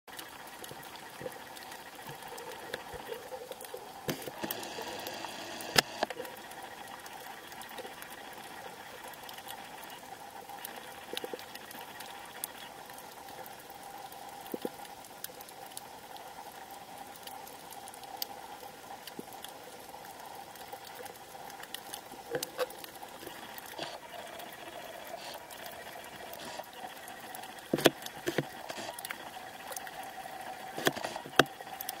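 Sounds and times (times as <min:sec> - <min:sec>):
fine crackle of clicks: 0:00.1 - 0:32.0
steady underwater hum: 0:00.1 - 0:32.0.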